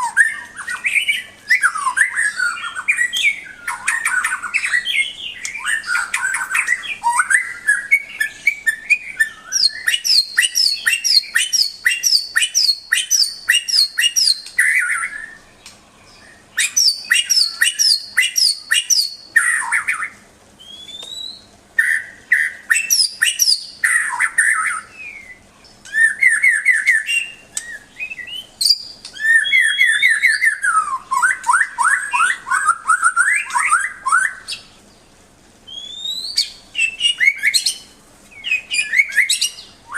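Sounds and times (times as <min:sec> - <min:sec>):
songbird whistling and trilling: 0:00.0 - 0:34.8, 0:35.7 - 0:39.9.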